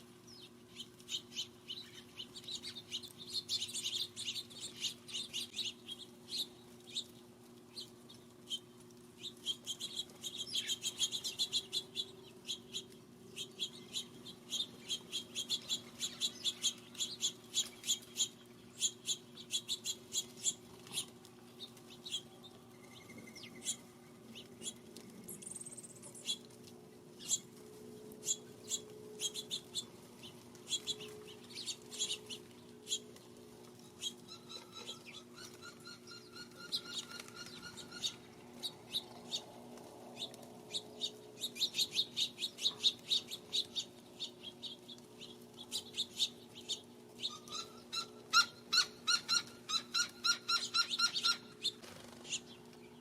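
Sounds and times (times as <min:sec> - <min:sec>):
low steady hum: 0:00.0 - 0:53.0
small birds chirping: 0:00.0 - 0:53.0.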